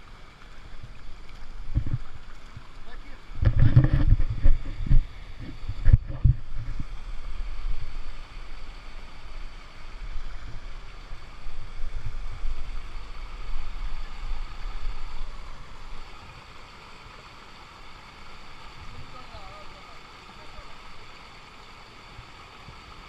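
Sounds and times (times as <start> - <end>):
low uneven rumble: 0.0 - 21.6
waterfall rushing: 0.0 - 23.0.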